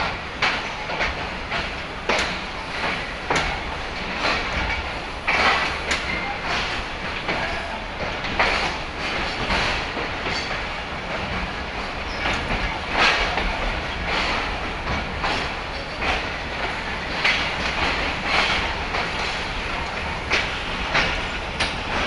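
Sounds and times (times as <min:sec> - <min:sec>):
train coach rumble and rattle: 0:00.0 - 0:22.0
wheels clanking over rail joints: 0:00.0 - 0:22.0.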